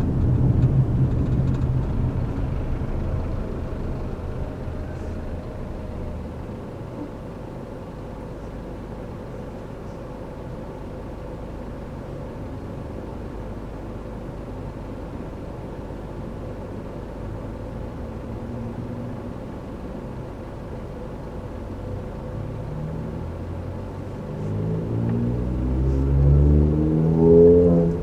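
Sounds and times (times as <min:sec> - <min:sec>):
car tyres and engine rumble: 0:00.0 - 0:28.0.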